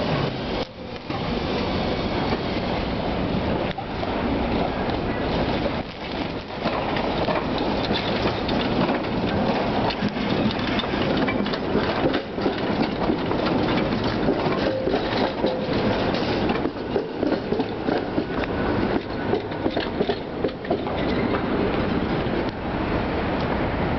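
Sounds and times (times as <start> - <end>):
tram wheels rumbling and clattering: 0.0 - 23.9.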